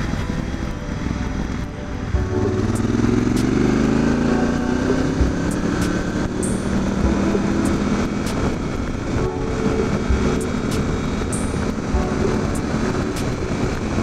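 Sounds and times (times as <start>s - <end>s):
motorcycle engine running: 0.0s - 14.0s
wind rush: 0.0s - 14.0s.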